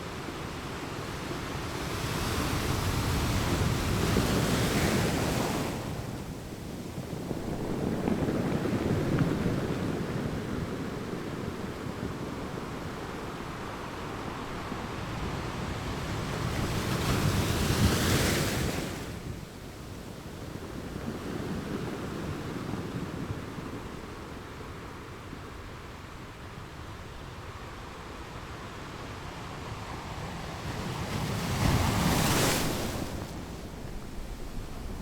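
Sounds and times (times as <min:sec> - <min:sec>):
ocean waves on a beach: 0:00.0 - 0:35.0.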